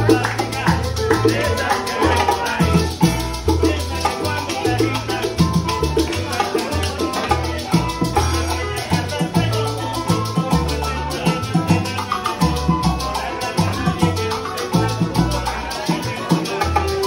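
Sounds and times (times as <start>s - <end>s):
congas and bongos: 0.0s - 17.0s
maracas shaken: 0.0s - 17.0s
upright bass: 0.0s - 17.0s.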